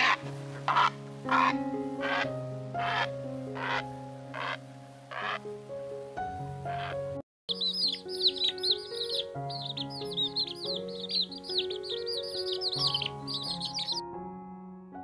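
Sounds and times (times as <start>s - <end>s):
small birds chirping: 0.0s - 5.4s, 6.7s - 14.1s
soft keyboard music: 0.0s - 15.0s.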